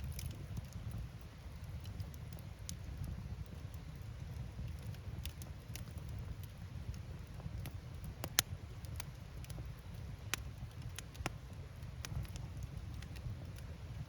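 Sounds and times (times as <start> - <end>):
fire flames rumbling: 0.0 - 14.0
firewood crackling and popping: 0.0 - 14.0.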